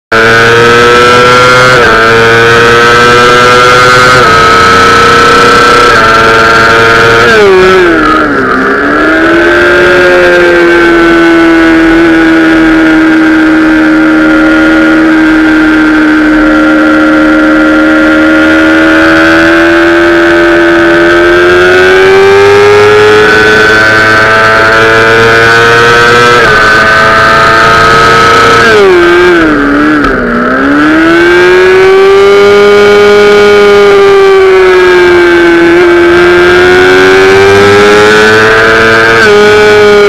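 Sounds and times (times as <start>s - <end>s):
motorcycle engine running hard: 0.1s - 40.0s.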